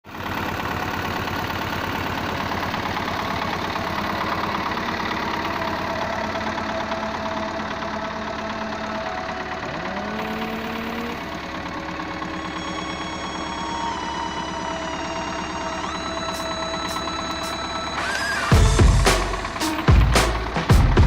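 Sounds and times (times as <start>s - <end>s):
engine idling and revving: 0.0s - 21.0s.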